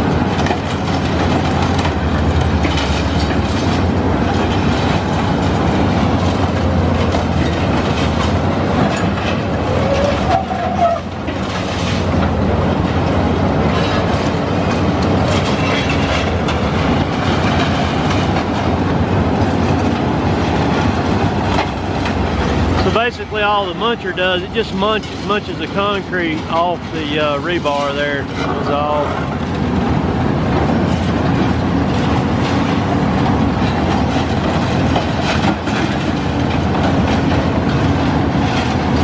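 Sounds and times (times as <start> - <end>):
concrete crunching and rattling: 0.0 - 39.0
excavator engine drone: 0.0 - 39.0.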